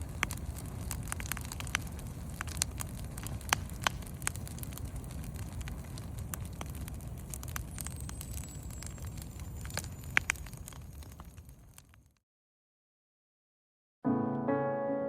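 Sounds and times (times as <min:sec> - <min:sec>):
sharp clicks and crackles: 0:00.0 - 0:12.2.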